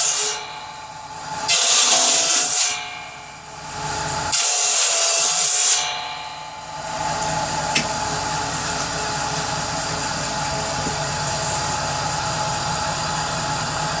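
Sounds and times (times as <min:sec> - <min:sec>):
power saw running: 0:00.0 - 0:14.0.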